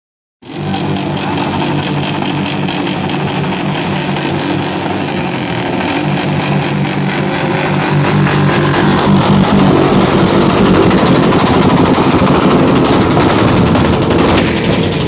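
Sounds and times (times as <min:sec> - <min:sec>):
motorcycles riding past: 0:00.4 - 0:15.0.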